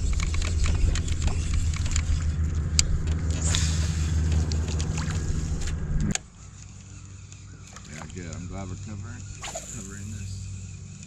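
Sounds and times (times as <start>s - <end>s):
engine running low hum: 0.0s - 11.0s.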